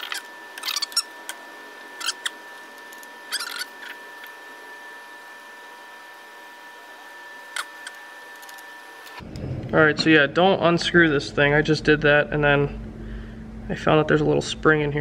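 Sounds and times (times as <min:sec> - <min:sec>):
steady high-pitched hum: 0:00.0 - 0:15.0.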